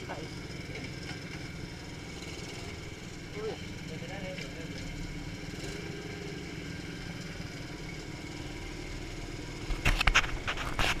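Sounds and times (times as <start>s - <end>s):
motorbike engine idling: 0.0s - 9.8s.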